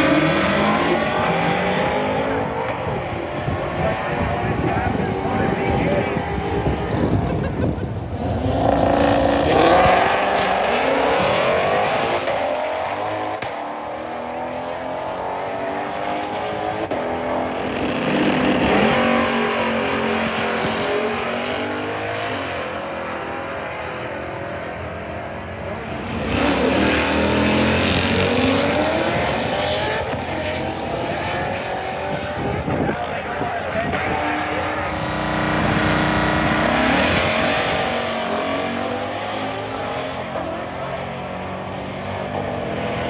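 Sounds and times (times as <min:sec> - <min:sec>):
drag racing cars accelerating: 0:00.0 - 0:43.0.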